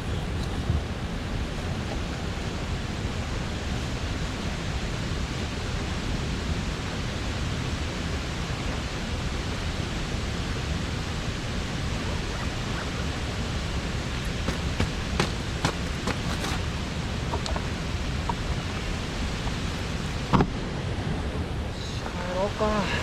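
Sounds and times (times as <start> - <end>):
stream rushing water: 0.0 - 23.0.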